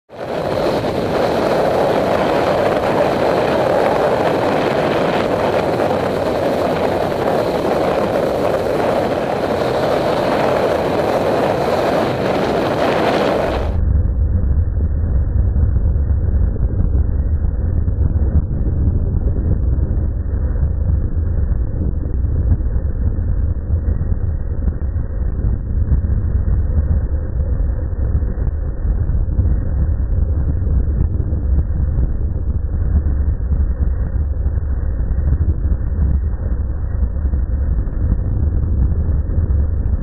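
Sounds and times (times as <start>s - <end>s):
wind rushing on microphone: 0.1s - 40.0s.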